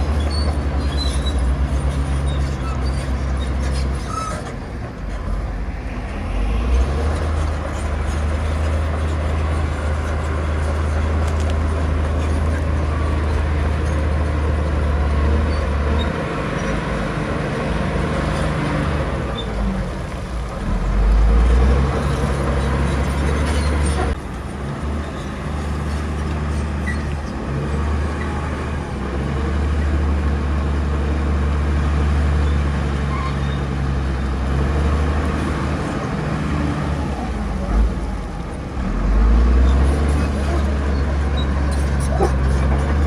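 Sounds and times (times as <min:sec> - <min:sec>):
bulldozer diesel engine droning: 0:00.0 - 0:43.0.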